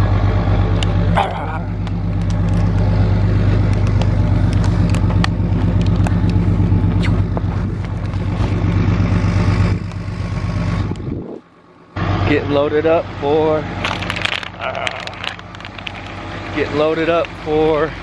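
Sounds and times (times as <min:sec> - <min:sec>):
engine idling hum: 0:00.0 - 0:18.0.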